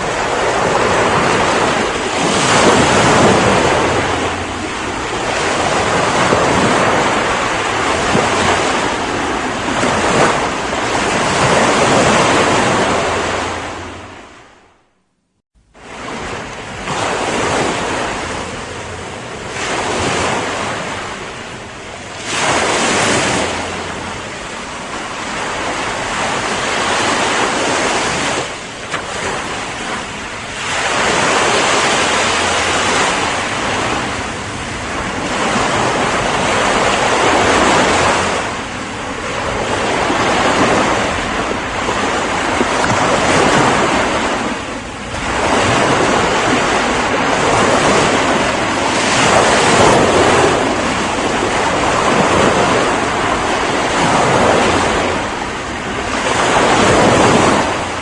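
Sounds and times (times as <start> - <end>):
waves breaking on shore: 0.0 - 14.9, 15.6 - 58.0.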